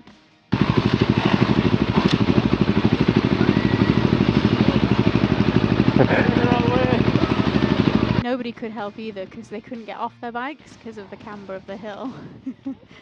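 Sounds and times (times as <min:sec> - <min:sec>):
motorcycle engine running: 0:00.5 - 0:12.4.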